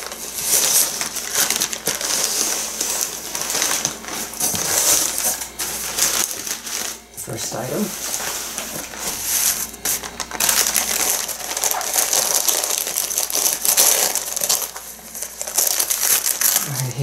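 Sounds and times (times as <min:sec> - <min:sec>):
newspaper rustling and crinkling: 0:00.0 - 0:17.0.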